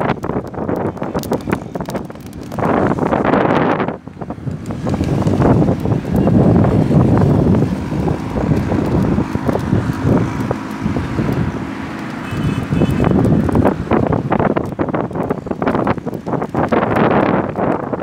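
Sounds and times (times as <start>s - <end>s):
road traffic: 0.0s - 18.0s
wind buffeting microphone: 0.0s - 18.0s.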